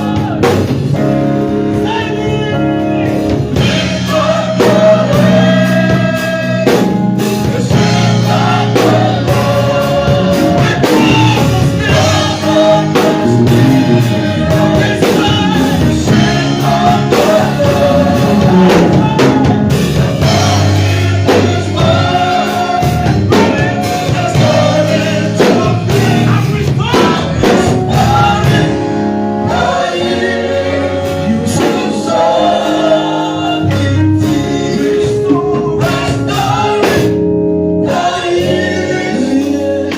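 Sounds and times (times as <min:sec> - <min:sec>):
backing instruments: 0:00.0 - 0:39.9
group singing gospel song: 0:00.0 - 0:39.9
steady drum beat: 0:00.0 - 0:39.9.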